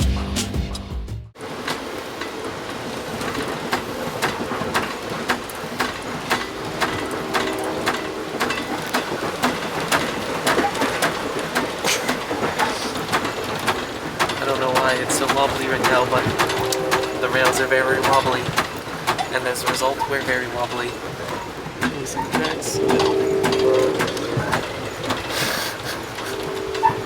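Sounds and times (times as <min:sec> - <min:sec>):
train rumbling on track: 0:01.4 - 0:27.0
wheels clacking and rattling: 0:01.4 - 0:27.0.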